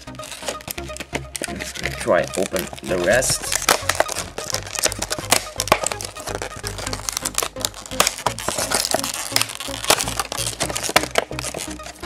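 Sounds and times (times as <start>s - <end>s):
background music: 0.0s - 12.0s
blister pack crinkling and tearing: 0.0s - 12.0s.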